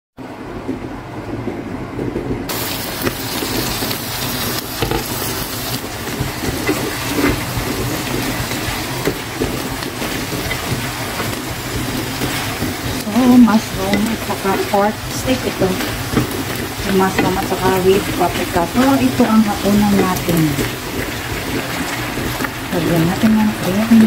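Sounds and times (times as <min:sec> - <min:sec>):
meat and peppers sizzling in a pan: 0:02.5 - 0:24.0
spatula scraping a pan: 0:04.7 - 0:24.0.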